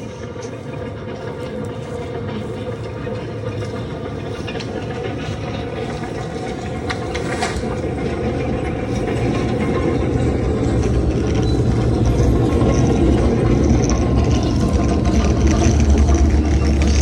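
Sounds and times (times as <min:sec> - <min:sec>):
bicycle riding rumble: 0:00.0 - 0:17.0.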